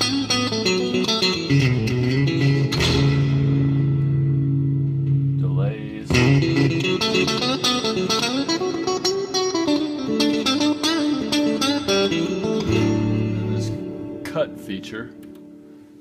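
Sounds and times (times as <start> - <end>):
electric guitar single notes: 0.0 - 15.8.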